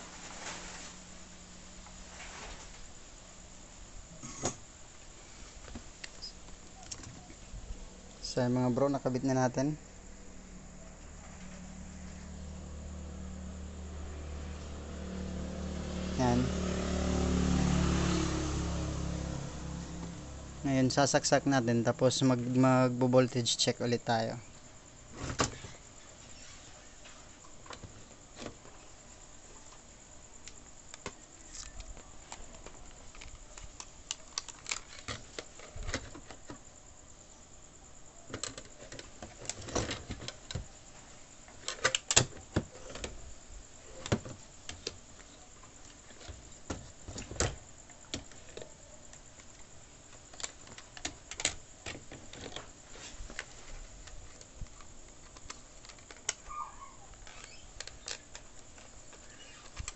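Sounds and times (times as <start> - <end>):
faint steady hiss: 0.0 - 59.9.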